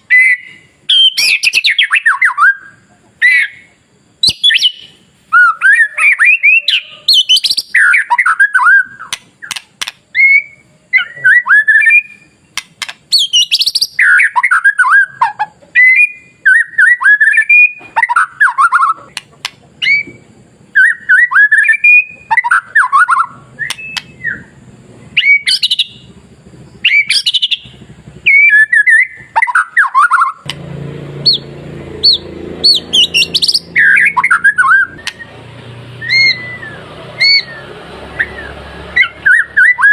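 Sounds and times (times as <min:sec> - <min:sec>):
bird singing whistles: 0:00.0 - 0:19.2, 0:19.8 - 0:30.5, 0:31.2 - 0:39.9.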